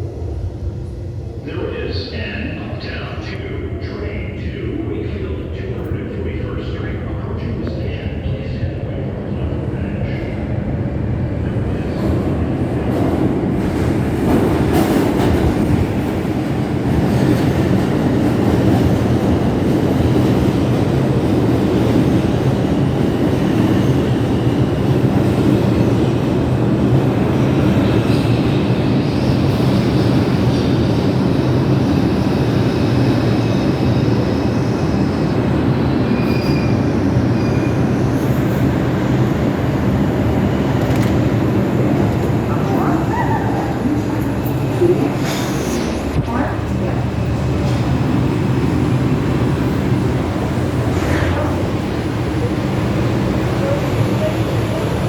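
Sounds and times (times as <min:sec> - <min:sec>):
subway train wheels rumbling: 0:00.0 - 0:55.0.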